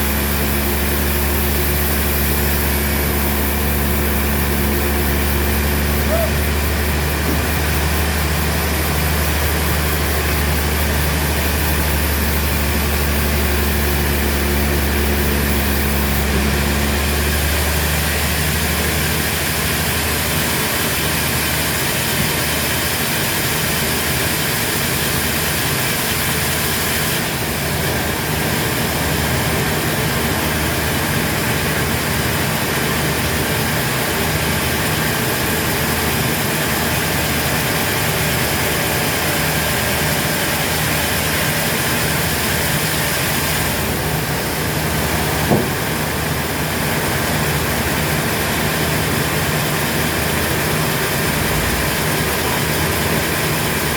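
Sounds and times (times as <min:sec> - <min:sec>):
sawmill machinery droning: 0:00.0 - 0:53.9.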